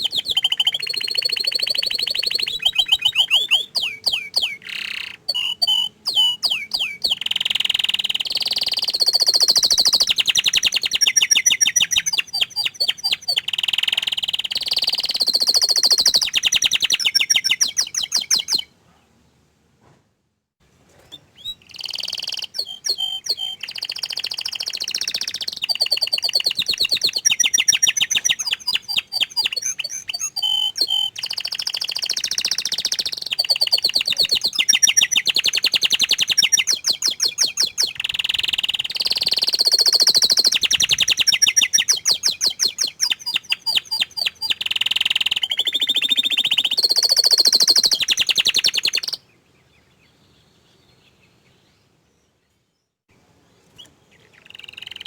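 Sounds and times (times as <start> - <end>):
canary singing trills: 0.0 - 18.8, 21.0 - 52.5, 53.6 - 55.0.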